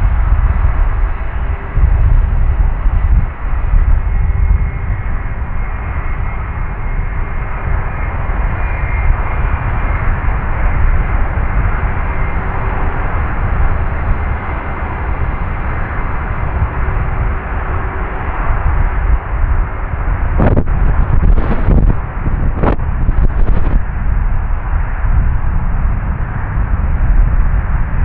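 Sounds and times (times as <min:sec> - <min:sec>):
faint high engine whine: 0:00.0 - 0:28.0
jet engines rumbling: 0:00.0 - 0:28.0.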